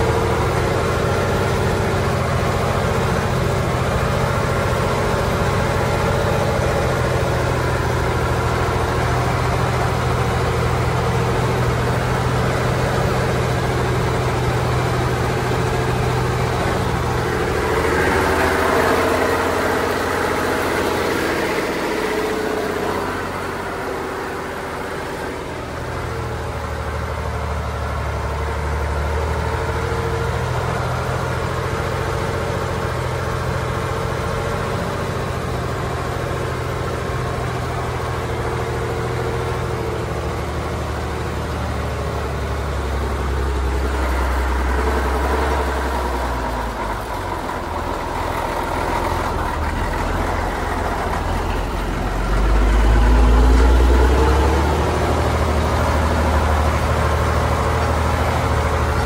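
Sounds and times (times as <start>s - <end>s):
truck diesel engine pulling: 0.0s - 59.0s.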